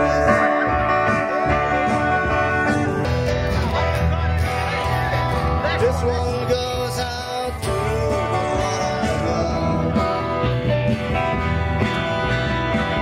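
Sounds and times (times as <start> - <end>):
country music on acoustic guitars: 0.0 - 13.0.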